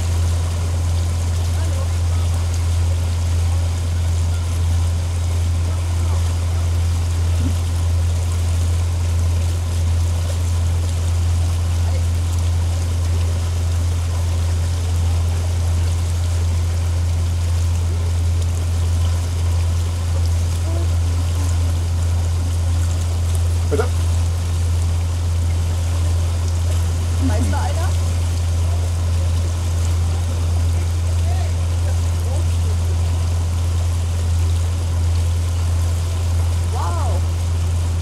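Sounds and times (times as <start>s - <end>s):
boat engine droning: 0.0s - 38.0s
water splashing along hull: 0.0s - 38.0s.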